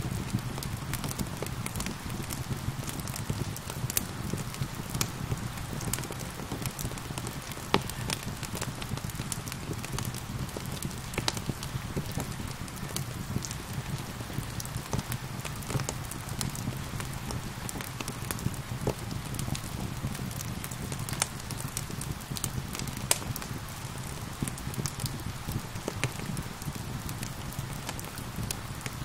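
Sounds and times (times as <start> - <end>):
low rumble of rain: 0.0 - 29.0
wood fire crackling and popping: 0.0 - 29.0.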